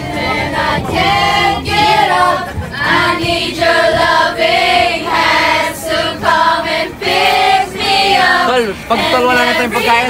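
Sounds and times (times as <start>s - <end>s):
voices singing together: 0.0s - 10.0s.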